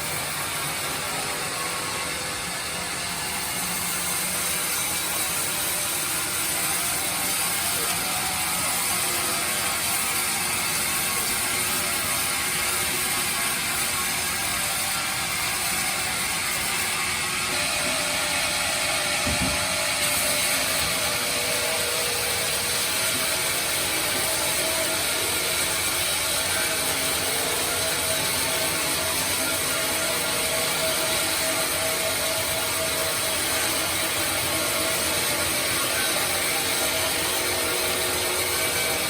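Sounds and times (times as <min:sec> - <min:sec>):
bandsaw cutting wood: 0:00.0 - 0:39.0.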